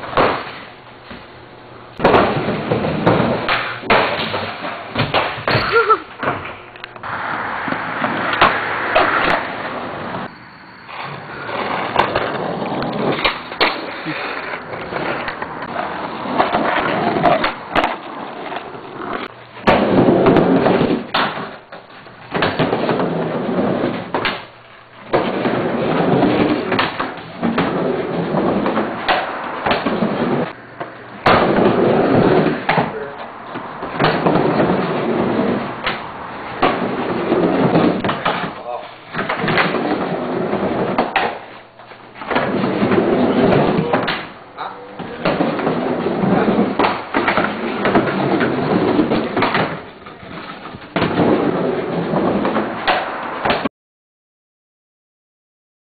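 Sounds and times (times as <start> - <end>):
skateboard clacks and impacts: 0.0 - 1.2, 2.0 - 6.6, 7.6 - 10.3, 11.4 - 41.6, 42.2 - 44.4, 45.0 - 53.7
skateboard wheels rolling: 0.0 - 53.7.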